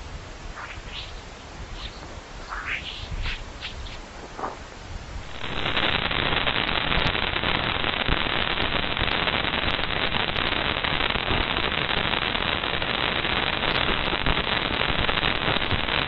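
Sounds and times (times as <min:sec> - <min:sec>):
crackling static with clicks: 0:00.0 - 0:16.0.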